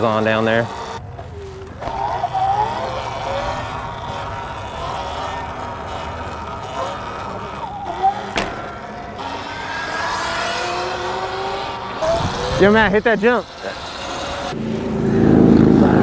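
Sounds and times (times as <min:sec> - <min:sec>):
electric motor whining: 0:00.0 - 0:14.6
wind and road noise: 0:00.0 - 0:16.0.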